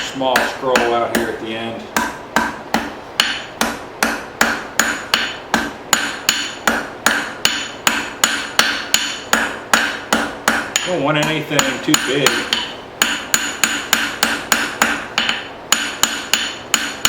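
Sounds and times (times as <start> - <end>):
hammer striking steel on anvil: 0.3 - 17.0.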